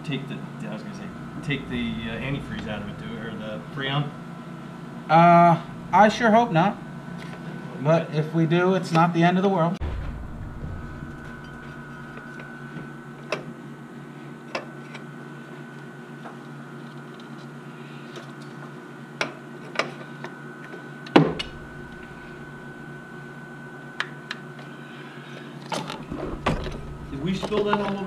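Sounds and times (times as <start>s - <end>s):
steady hum: 0.0s - 8.8s, 9.7s - 16.9s, 20.2s - 28.0s.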